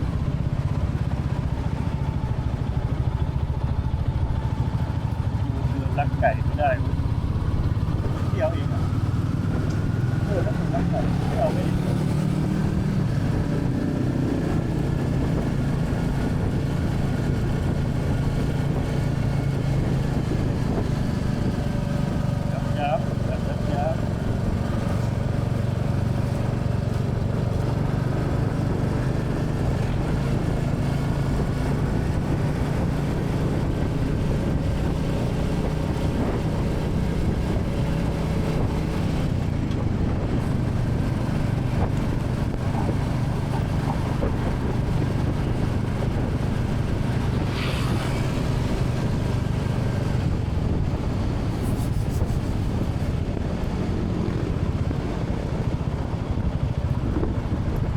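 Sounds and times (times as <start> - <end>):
motorcycle engine running: 0.0 - 57.9
wind noise on microphone: 6.9 - 57.9.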